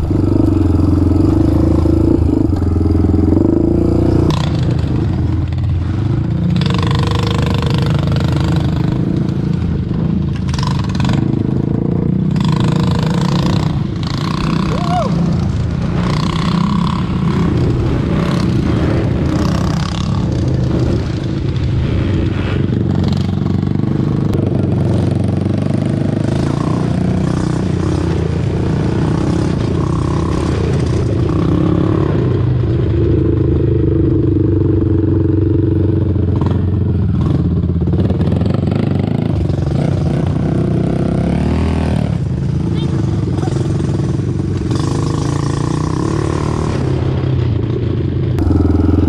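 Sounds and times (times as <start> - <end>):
atv engine revving: 0.0 - 49.0.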